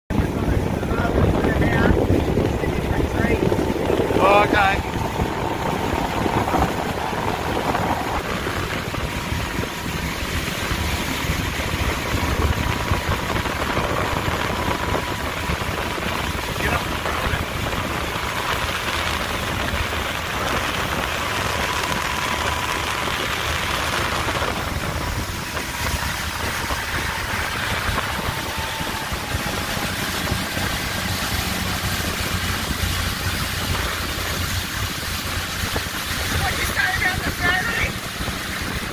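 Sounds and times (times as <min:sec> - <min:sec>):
motorboat engines running: 0:00.1 - 0:38.9
rushing water and wind: 0:00.1 - 0:38.9.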